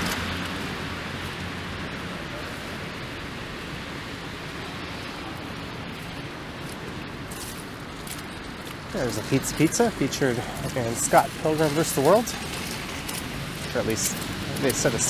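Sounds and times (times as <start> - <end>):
car tyres hissing on wet road: 0.0 - 15.0.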